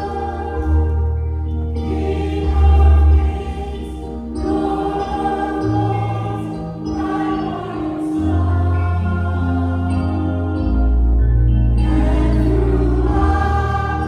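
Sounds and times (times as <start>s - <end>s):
choir-like voices: 0.0s - 14.0s
keyboard chords: 0.0s - 14.0s.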